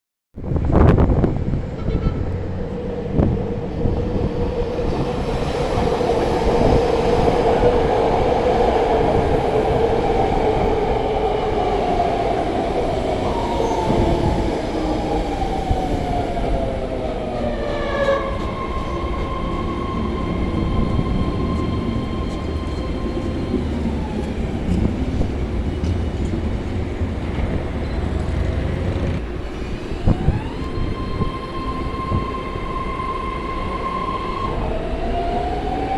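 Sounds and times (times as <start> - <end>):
electric train motor whine: 2.7 - 35.9.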